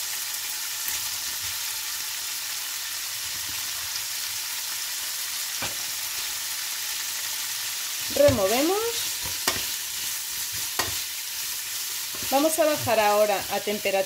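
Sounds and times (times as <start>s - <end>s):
tofu sizzling in a pan: 0.0s - 14.0s.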